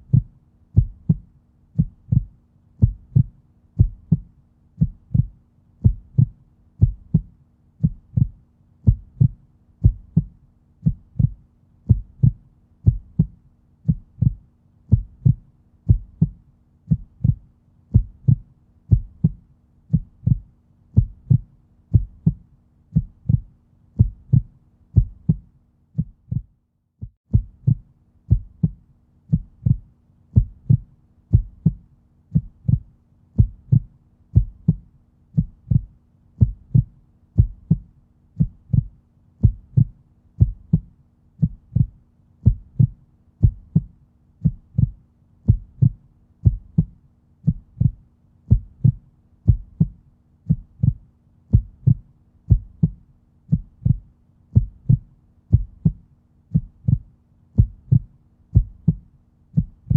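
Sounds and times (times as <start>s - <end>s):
human heartbeat: 0.0s - 59.9s.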